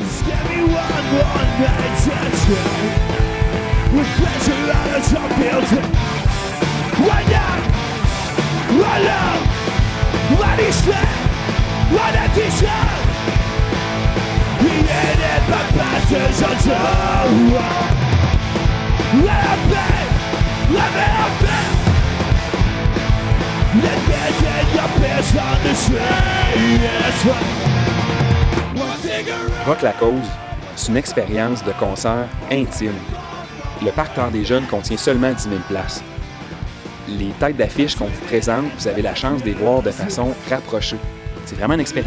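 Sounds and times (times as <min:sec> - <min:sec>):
singer yelling vocals: 0:00.0 - 0:06.0, 0:06.8 - 0:13.3, 0:14.4 - 0:18.1, 0:19.0 - 0:22.0, 0:23.6 - 0:27.7, 0:28.7 - 0:36.2, 0:37.0 - 0:42.0
fast drum beat: 0:00.0 - 0:36.3
punk rock band playing live: 0:00.0 - 0:42.0.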